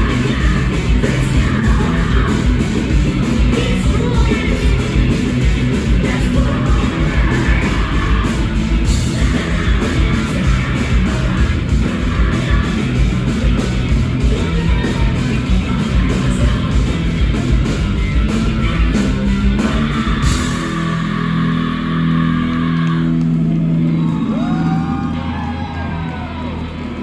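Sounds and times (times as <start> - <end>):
drums and cymbals: 0.0 - 22.9
distorted electric guitars: 0.0 - 27.0.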